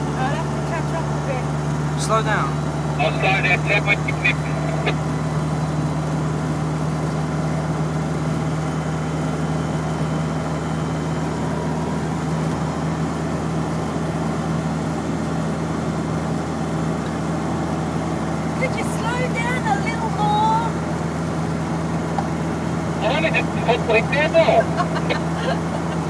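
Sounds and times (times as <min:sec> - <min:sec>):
car engine and road noise drone: 0:00.0 - 0:26.0.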